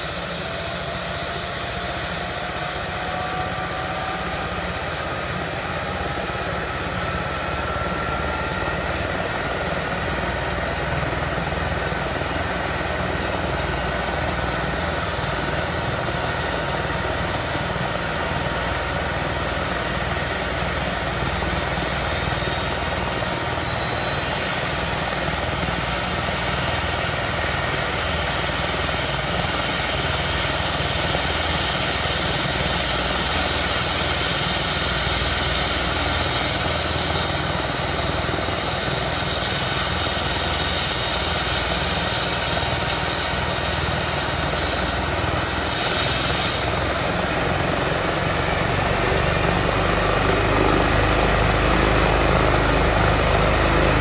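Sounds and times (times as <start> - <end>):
helicopter turbine engines whining: 0.0 - 54.0.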